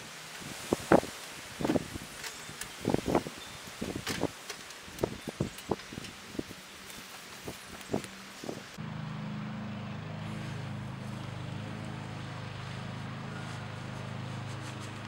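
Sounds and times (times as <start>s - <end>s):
low mechanical hum: 1.4s - 15.0s.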